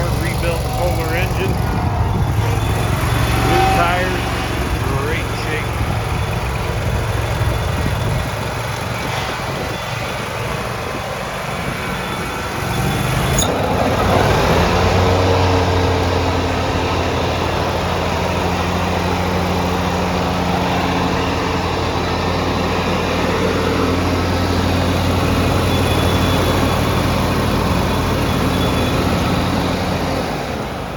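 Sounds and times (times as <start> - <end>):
mower engine running: 0.0 - 30.9.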